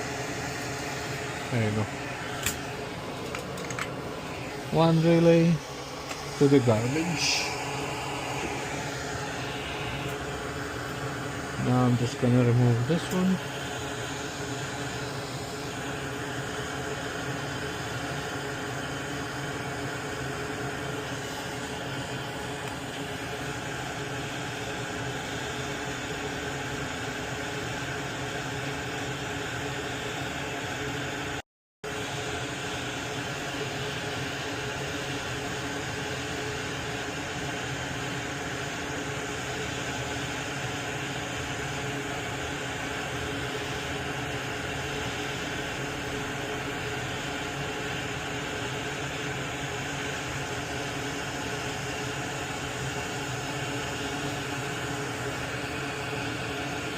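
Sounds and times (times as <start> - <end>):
fan blower hum: 0.0 - 56.9.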